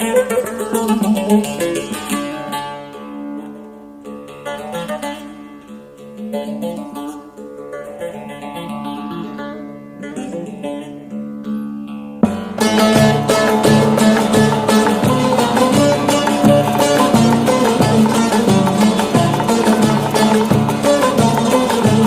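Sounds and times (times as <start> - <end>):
plucked string instrument melody: 0.0 - 22.0.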